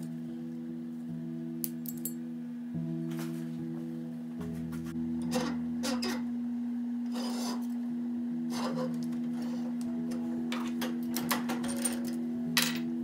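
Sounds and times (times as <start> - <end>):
electric motor hum: 2.2 - 13.0.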